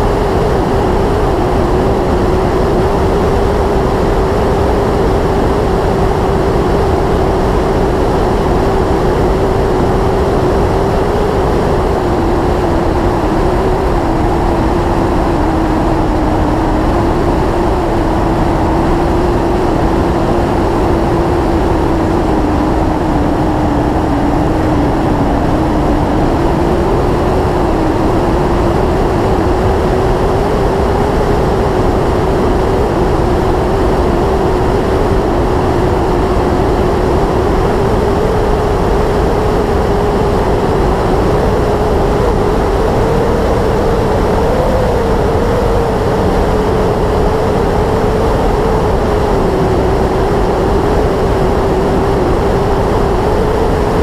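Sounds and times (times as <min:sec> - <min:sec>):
constant rush of noise: 0:00.0 - 0:54.0.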